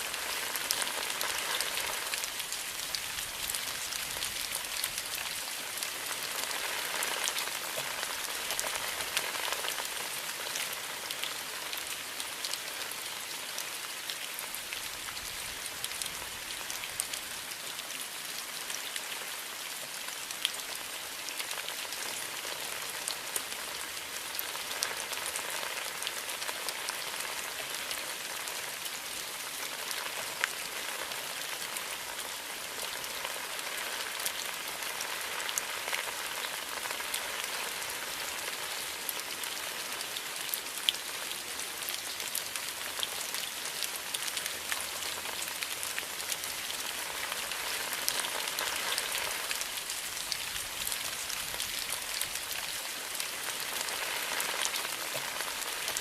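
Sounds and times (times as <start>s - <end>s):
rain pattering on foliage: 0.0s - 56.0s.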